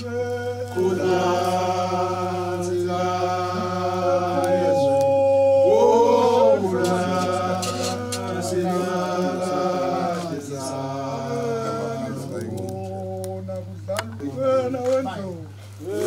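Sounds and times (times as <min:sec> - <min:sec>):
voices chanting and singing: 0:00.0 - 0:16.0.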